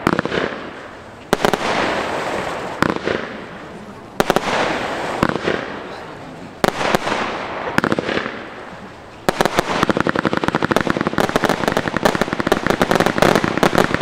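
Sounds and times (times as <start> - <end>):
crackling firework reports: 0.0 - 14.0
firework crack and hiss: 0.0 - 14.0.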